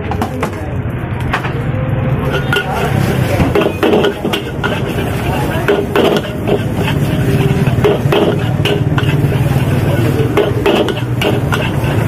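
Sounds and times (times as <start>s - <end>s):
metal spatula scraping a wok: 2.1s - 12.0s.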